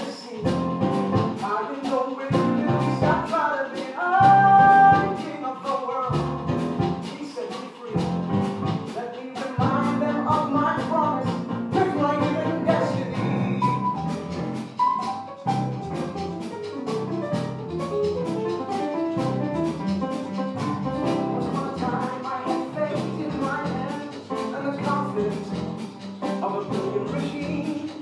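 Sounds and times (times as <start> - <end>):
band playing musical theatre song: 0.0 - 28.0.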